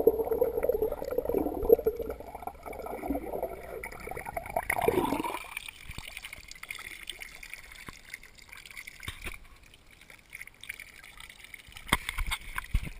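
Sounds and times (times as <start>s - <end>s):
water trickling into trough: 0.0s - 12.9s.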